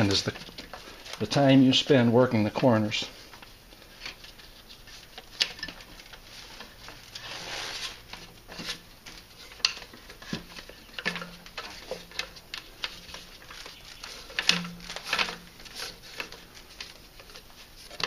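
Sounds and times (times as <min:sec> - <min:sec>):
cord rustling and scraping on wood: 0:00.0 - 0:18.0.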